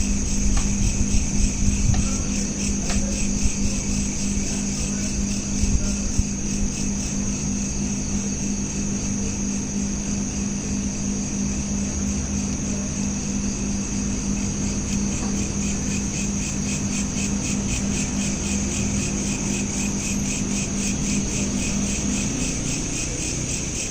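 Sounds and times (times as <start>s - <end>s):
crickets chirping: 0.0s - 23.9s
steady low hum: 0.0s - 23.9s.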